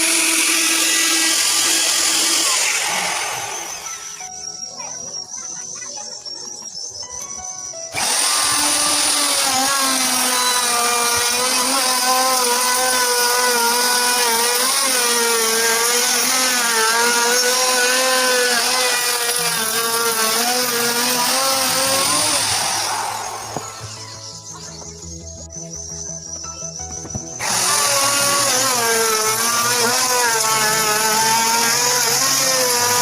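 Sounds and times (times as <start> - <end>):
power tool running on wood: 0.0 - 4.6, 7.7 - 25.0, 27.0 - 33.0.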